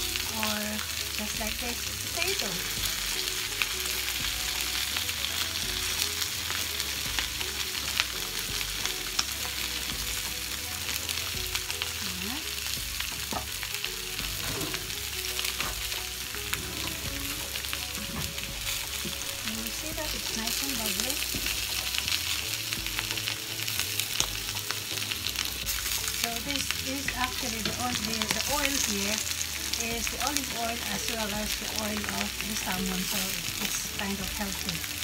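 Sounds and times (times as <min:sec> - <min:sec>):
fish and potatoes sizzling in oil: 0:00.0 - 0:35.0.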